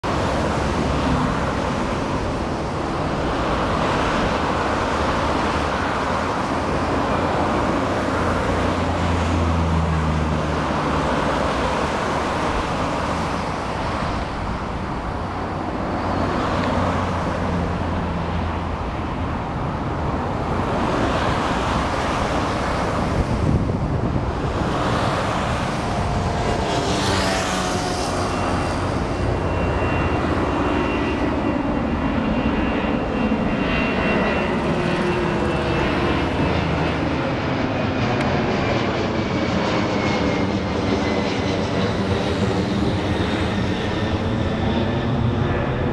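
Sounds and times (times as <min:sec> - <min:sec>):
jet engine roar: 0:00.0 - 0:45.9.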